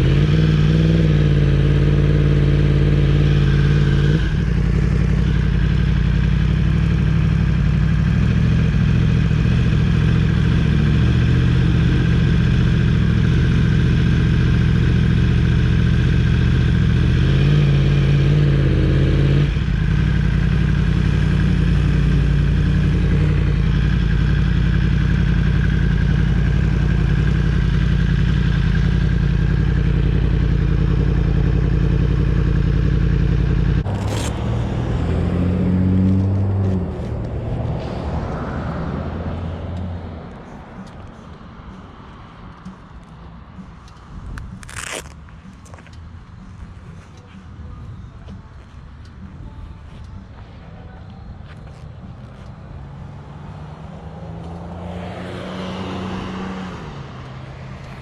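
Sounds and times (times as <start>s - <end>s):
motorcycle engine running: 0.0s - 41.4s, 43.6s - 50.5s.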